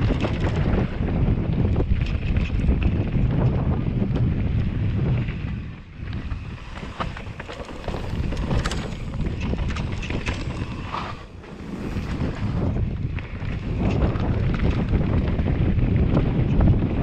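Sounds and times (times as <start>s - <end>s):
bike clicks and rattles: 0.0s - 17.0s
low rumble: 0.0s - 17.0s
wind buffeting microphone: 0.0s - 17.0s.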